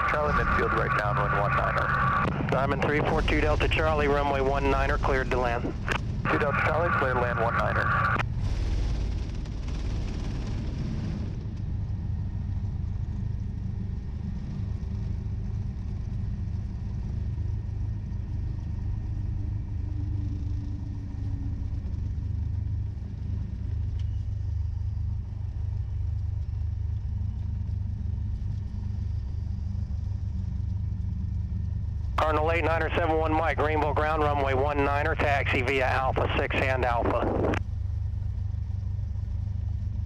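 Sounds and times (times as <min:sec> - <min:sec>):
light aircraft engine idling: 0:00.0 - 0:40.0.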